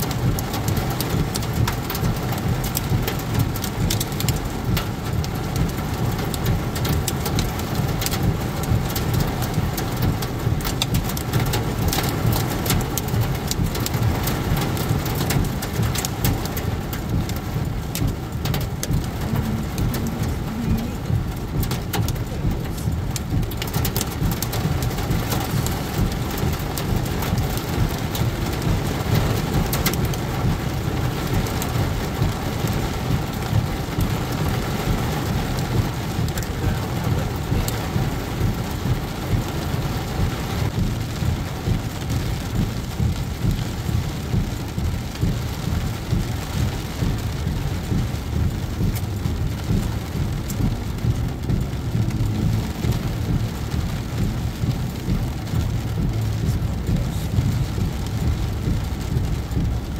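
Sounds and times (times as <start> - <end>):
heavy rain on car roof: 0.0 - 59.9
tyres rumbling on wet road: 0.0 - 59.9.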